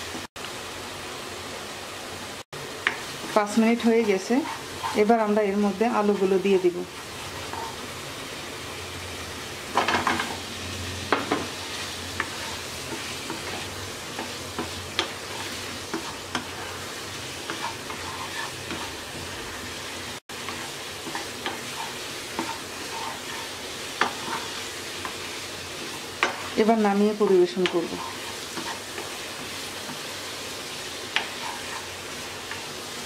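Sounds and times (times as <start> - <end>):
potatoes sizzling in oil: 0.0 - 33.0
spatula scraping a wok: 2.8 - 8.1, 9.7 - 33.0.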